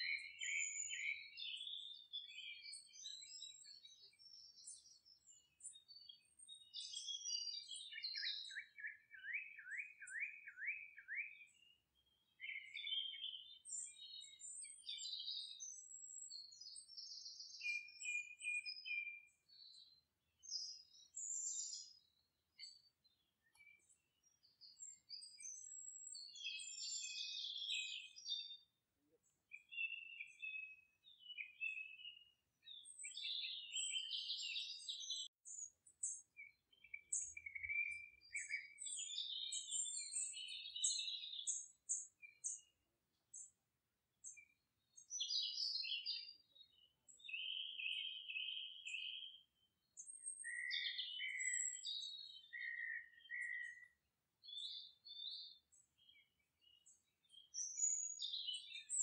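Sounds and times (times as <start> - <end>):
birds chirping and singing: 0.0 - 42.7, 44.2 - 59.0.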